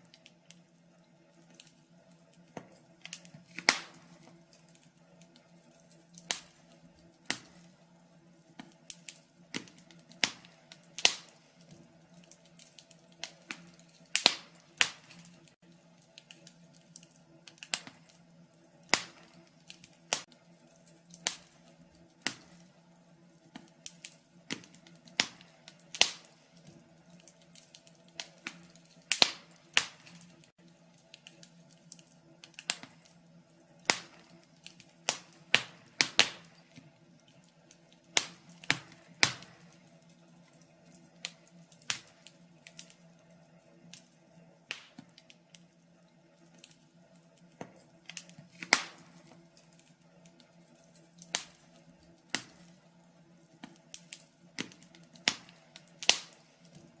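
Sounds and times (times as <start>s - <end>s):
faint steady hum: 0.0s - 57.0s
log fire crackling: 0.0s - 57.0s.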